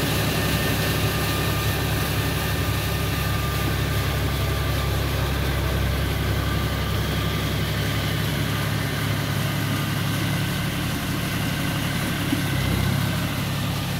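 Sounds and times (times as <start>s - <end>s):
diesel tractor engine under load: 0.0s - 13.9s.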